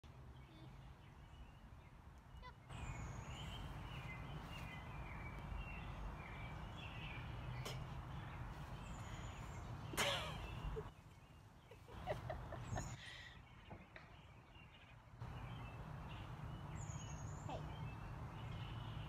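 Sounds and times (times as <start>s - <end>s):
birds chirping and singing: 0.1s - 19.0s.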